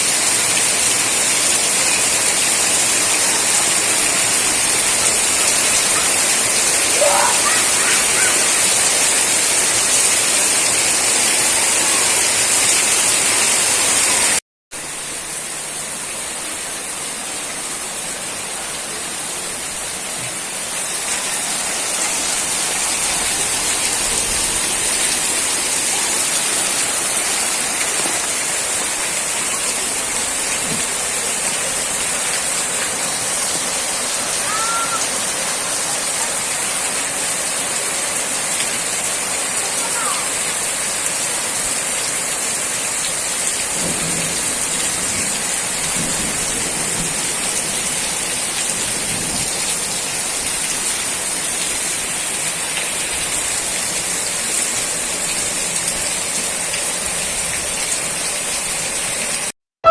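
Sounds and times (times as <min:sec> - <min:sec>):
heavy rainfall hiss: 0:00.0 - 0:59.5.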